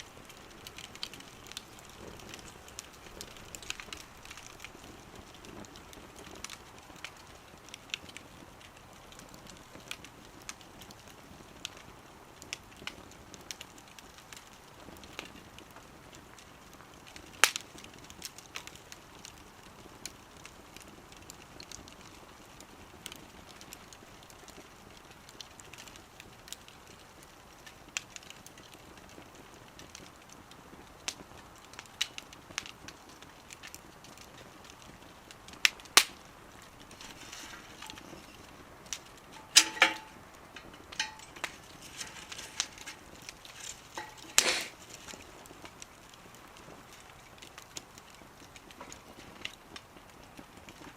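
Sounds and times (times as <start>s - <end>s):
hiss of burning: 0.0s - 50.9s
wood fire crackling: 0.0s - 50.9s.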